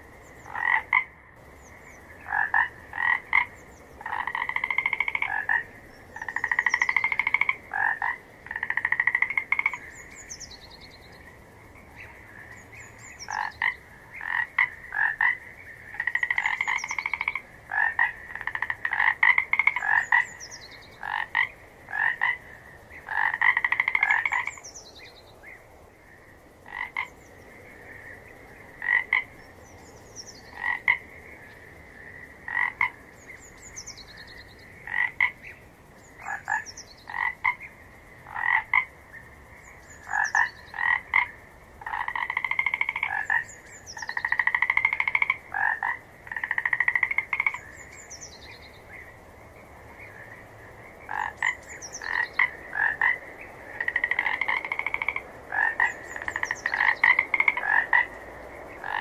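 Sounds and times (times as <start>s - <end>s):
frogs croaking: 0.0s - 59.0s
frogs trilling: 0.0s - 59.0s.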